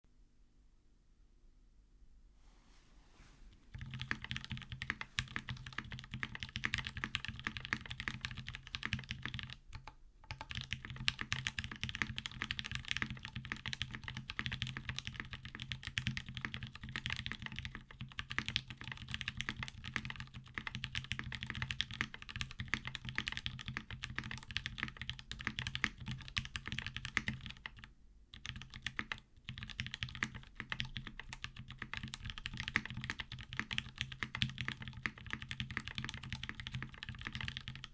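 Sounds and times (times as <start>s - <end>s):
fast typing on mechanical keyboard: 3.8s - 37.9s.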